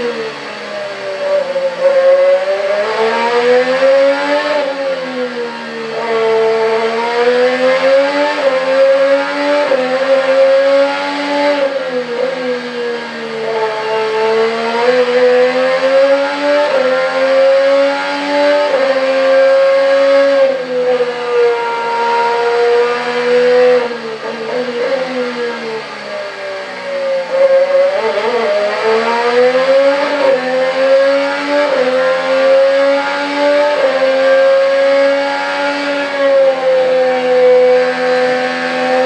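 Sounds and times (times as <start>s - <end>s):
racing car engine at speed: 0.0s - 39.0s.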